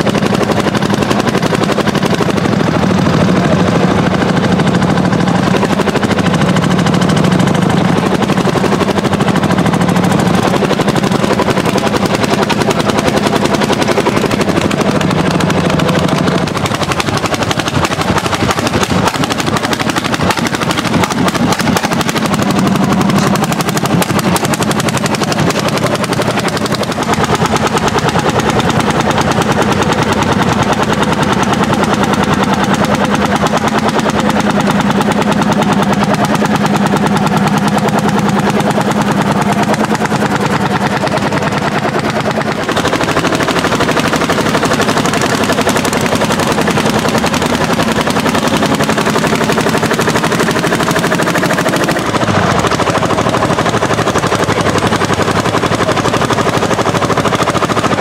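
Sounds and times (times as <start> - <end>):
tractor engine exhaust beats: 0.0 - 58.0.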